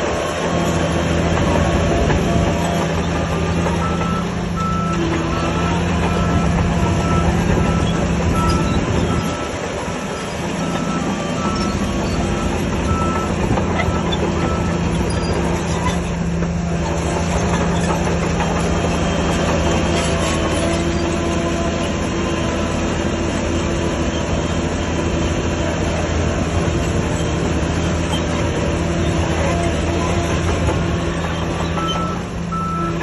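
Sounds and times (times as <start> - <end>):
diesel engine of heavy machinery: 0.0 - 33.0.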